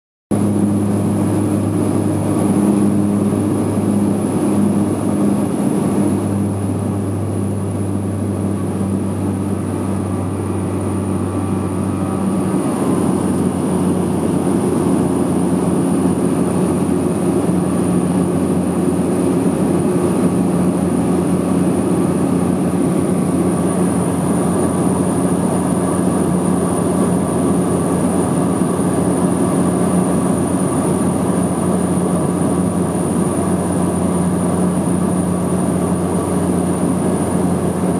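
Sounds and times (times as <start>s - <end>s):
propeller plane engine drone: 0.3s - 37.9s.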